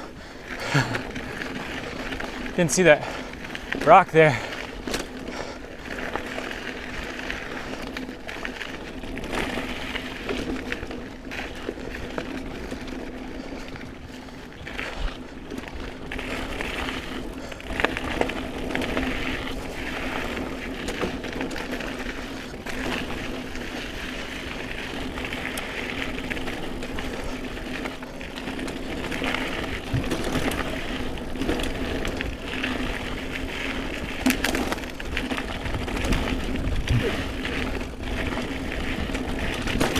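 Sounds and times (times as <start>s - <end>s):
bike rattling over roots: 0.0s - 39.9s
bike tyres rolling on dirt: 0.0s - 39.9s.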